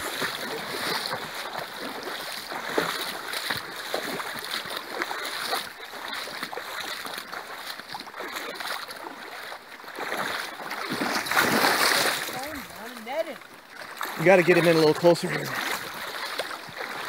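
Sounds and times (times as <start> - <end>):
river water rushing over gravel: 0.0 - 17.0
small water splashes: 0.0 - 17.0.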